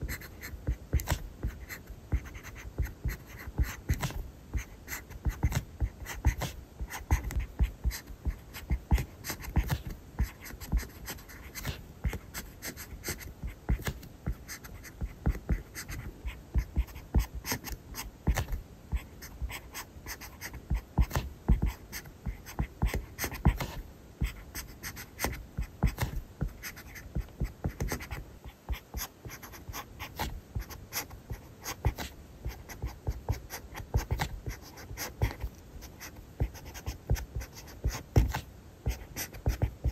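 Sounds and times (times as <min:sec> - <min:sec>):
pen nib scratching on paper: 0:00.0 - 0:39.9.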